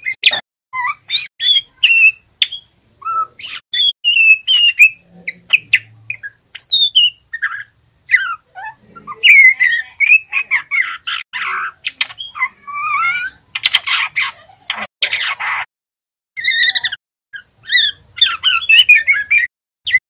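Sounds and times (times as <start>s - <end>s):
bird whistled song: 0.0s - 14.3s, 16.4s - 20.0s
harsh raspy bird notes: 0.0s - 15.7s, 16.4s - 20.0s.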